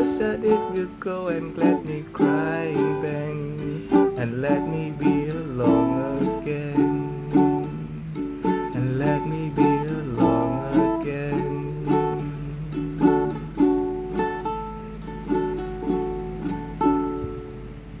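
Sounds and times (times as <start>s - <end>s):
plucked string instrument strumming: 0.0s - 18.0s.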